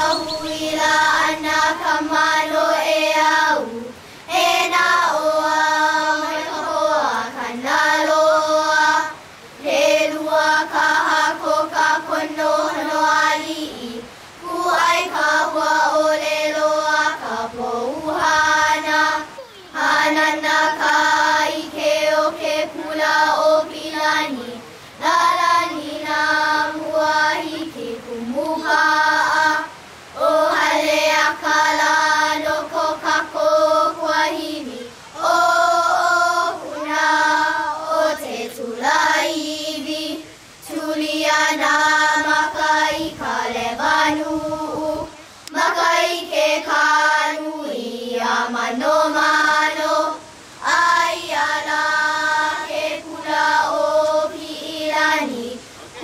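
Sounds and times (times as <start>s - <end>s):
children singing: 0.0s - 56.0s.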